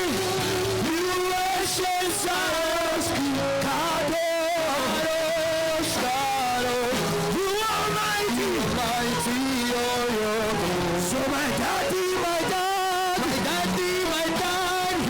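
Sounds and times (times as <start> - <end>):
guitar sustained melody: 0.0 - 15.0
slow worship band music: 0.0 - 15.0.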